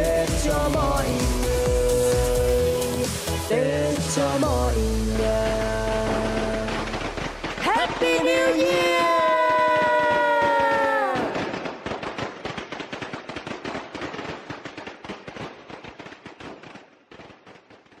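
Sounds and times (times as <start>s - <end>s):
firecrackers popping: 0.0s - 18.0s.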